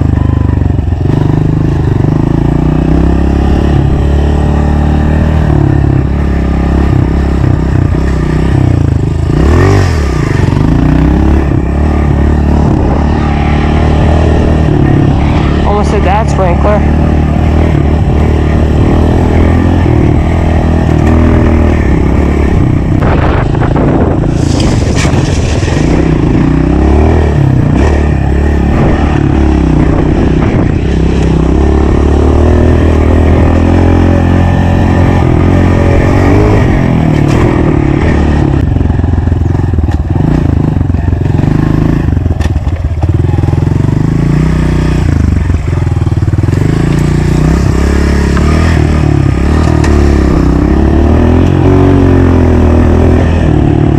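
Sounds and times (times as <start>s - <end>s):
motorbike engine revving: 0.0s - 53.9s.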